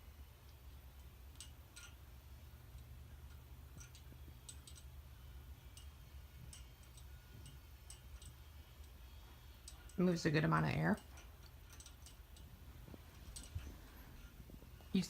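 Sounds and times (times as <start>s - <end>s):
ceiling fan humming: 0.0s - 15.0s
fan ticking: 0.0s - 15.0s.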